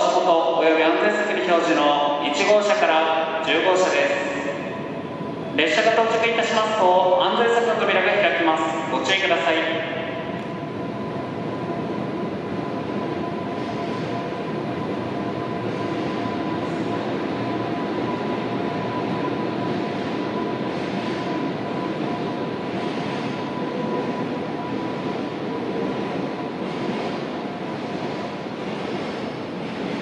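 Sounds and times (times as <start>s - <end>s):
train rushing rumble: 0.0s - 30.0s.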